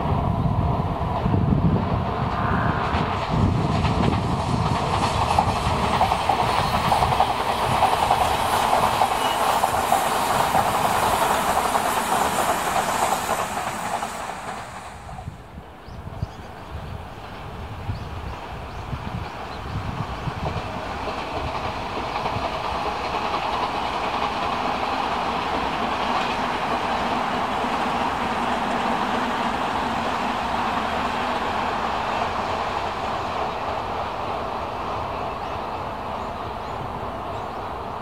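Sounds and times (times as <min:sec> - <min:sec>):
electric train running past: 0:00.0 - 0:38.0.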